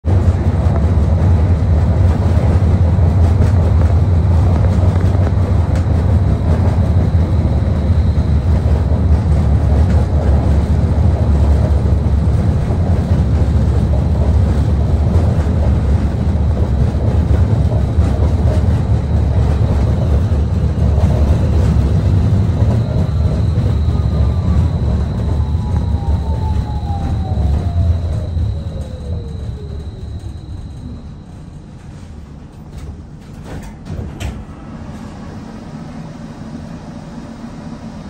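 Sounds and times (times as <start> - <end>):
streetcar rumbling on rails: 0.0 - 38.0.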